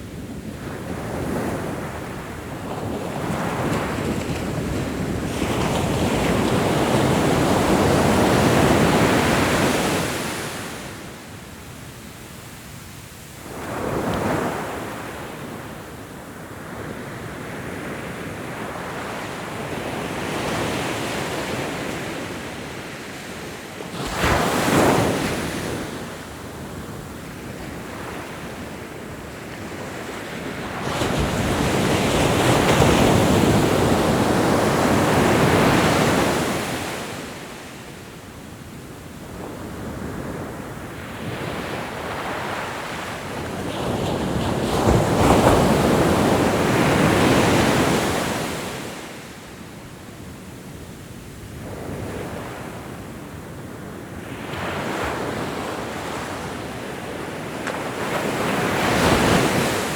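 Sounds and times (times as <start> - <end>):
ocean waves breaking on shore: 0.0 - 50.4, 51.3 - 59.9.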